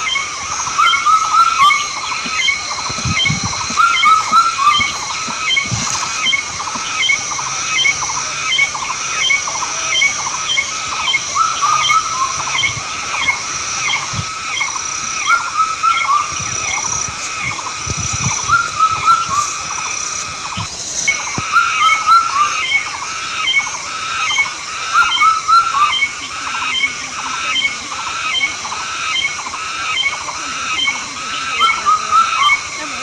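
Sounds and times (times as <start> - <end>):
thin steady high tone: 0.0 - 29.5.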